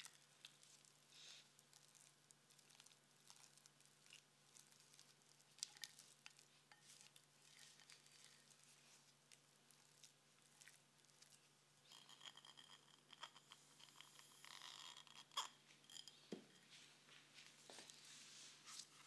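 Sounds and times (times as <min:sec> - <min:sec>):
sugar poured into bowl: 0:00.0 - 0:16.2
spatula mixing in glass bowl: 0:00.0 - 0:16.8.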